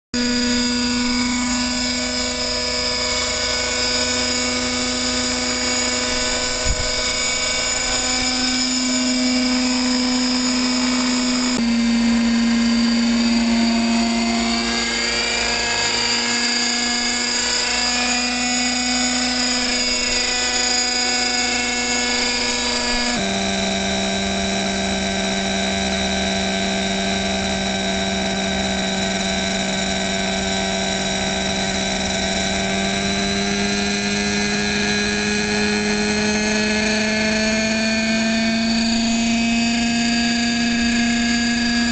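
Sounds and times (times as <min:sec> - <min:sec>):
model helicopter rotor whine: 0:00.2 - 0:41.9.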